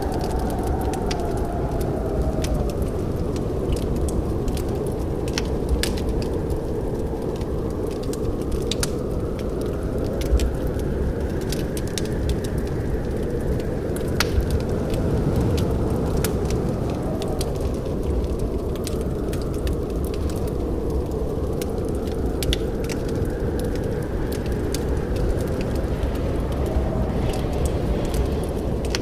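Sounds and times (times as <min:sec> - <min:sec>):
low fire rumble: 0:00.0 - 0:29.0
wood fire crackling and popping: 0:00.0 - 0:29.0.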